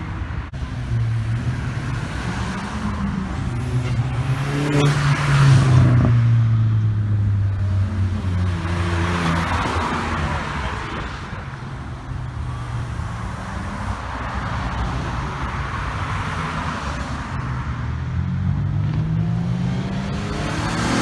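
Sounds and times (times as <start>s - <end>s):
car engines running at low revs: 0.0s - 21.0s
car engine accelerating: 0.5s - 21.0s.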